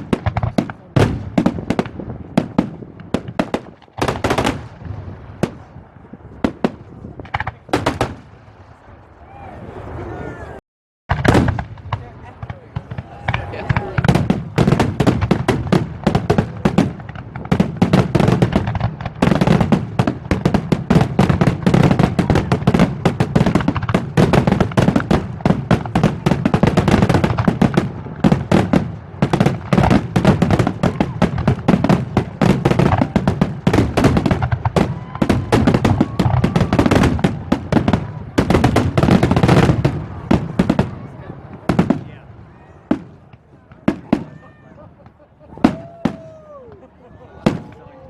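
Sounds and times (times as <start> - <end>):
fireworks bangs and crackles: 0.0 - 9.2, 11.1 - 48.0.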